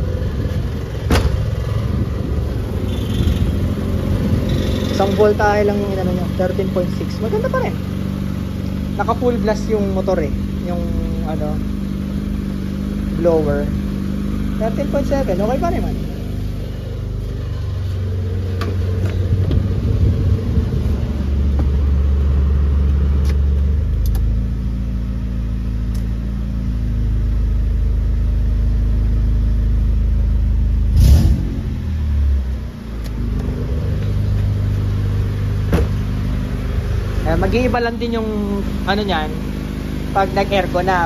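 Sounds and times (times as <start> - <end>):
car engine humming: 0.0 - 41.0.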